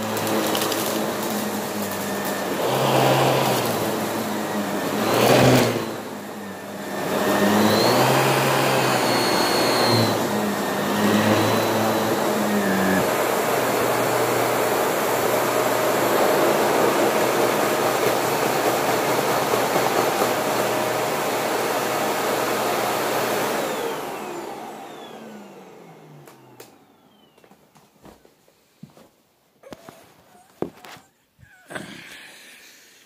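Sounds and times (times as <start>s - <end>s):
vacuum cleaner running: 0.0s - 28.2s.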